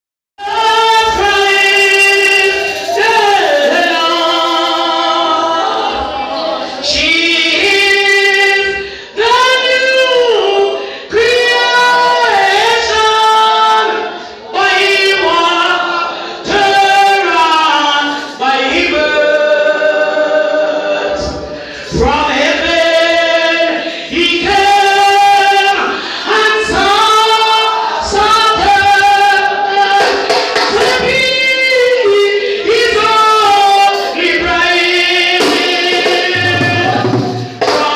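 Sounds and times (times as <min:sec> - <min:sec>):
group singing a church song: 0:00.4 - 0:37.9.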